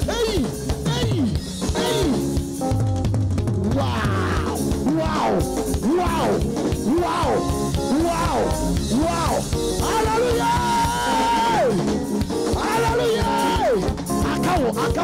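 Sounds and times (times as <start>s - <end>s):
drum kit beat: 0.0s - 15.0s
sliding lead melody: 0.6s - 15.0s.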